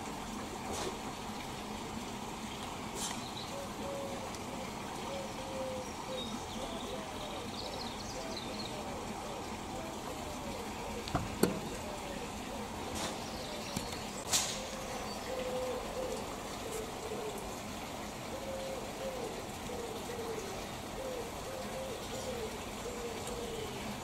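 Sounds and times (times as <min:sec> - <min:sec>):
pigeon cooing: 0:03.0 - 0:17.6, 0:18.2 - 0:24.0.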